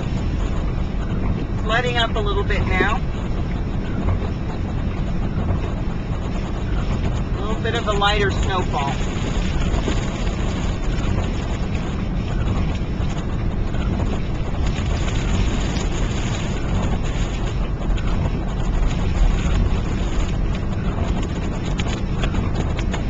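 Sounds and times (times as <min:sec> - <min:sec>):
car driving on highway: 0:00.0 - 0:23.0.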